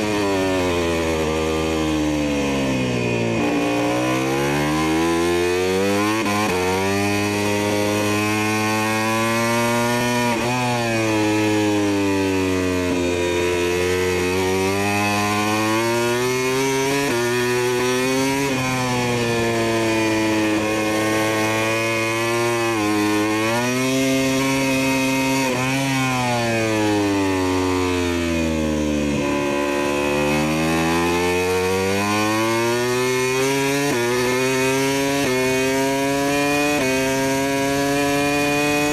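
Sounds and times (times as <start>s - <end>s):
engine revving through gears: 0.0s - 38.9s.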